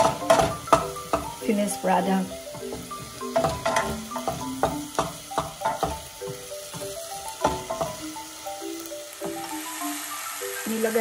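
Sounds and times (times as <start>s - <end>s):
light sizzle: 0.0s - 11.0s
soft background music: 0.0s - 11.0s.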